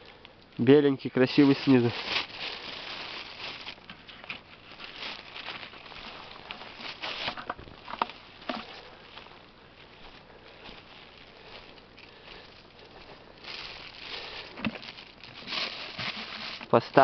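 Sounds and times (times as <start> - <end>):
footsteps on dry leaves and twigs: 1.1 - 17.0
plastic bag crinkling: 1.1 - 17.0.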